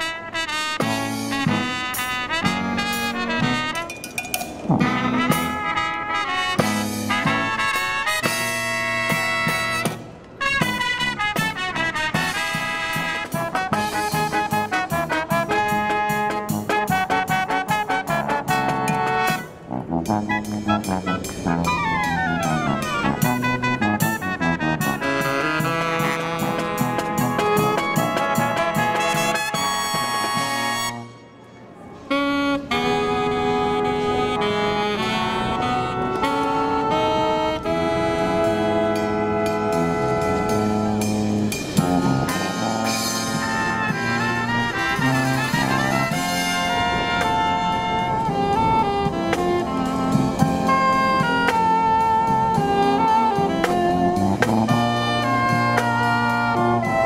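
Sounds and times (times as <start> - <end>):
marching brass band playing: 0.0 - 31.2, 32.1 - 57.0.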